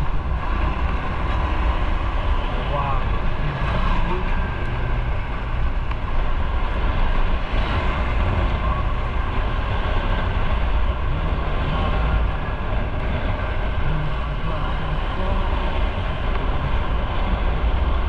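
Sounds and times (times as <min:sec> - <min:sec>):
motorcycle engine and road noise: 0:00.0 - 0:18.0
wind on microphone: 0:00.0 - 0:18.0.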